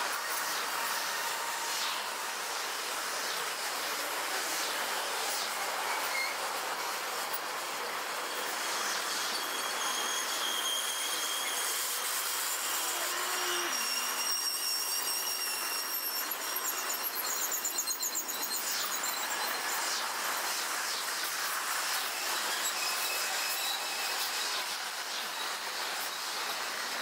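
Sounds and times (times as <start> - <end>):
steady hiss: 0.0 - 27.0
train wheels squealing: 0.0 - 27.0.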